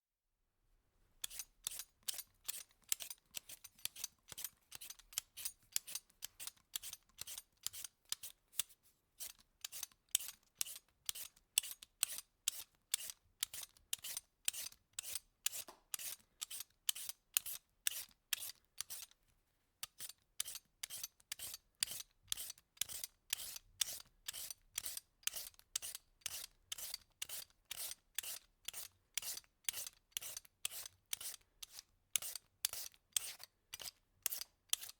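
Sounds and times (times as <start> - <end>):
vegetable peeler scraping: 1.2 - 19.2, 19.8 - 34.9.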